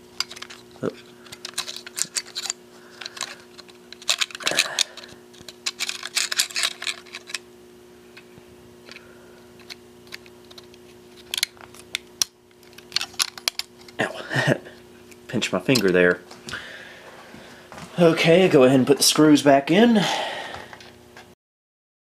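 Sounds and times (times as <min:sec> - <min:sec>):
faint steady hum: 0:00.0 - 0:21.4.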